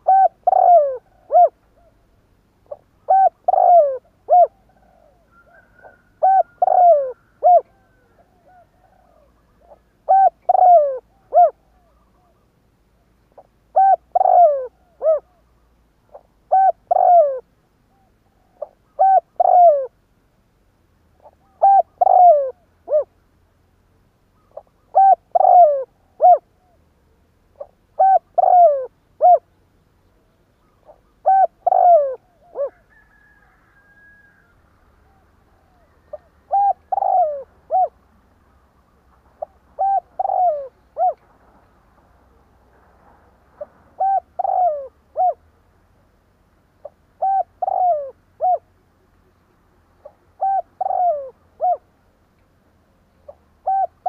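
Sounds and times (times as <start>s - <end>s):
dove cooing: 0.0s - 12.4s, 13.4s - 20.0s, 21.2s - 23.2s, 24.4s - 29.6s, 30.6s - 41.4s, 43.6s - 45.5s, 46.8s - 49.4s, 50.0s - 51.9s, 53.2s - 54.0s.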